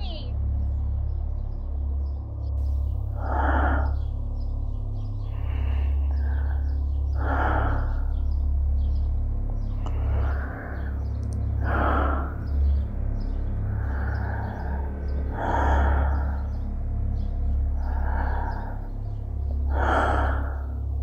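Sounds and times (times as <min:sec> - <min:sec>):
steady low hum: 0:00.0 - 0:21.0
heavy breathing: 0:02.6 - 0:21.0.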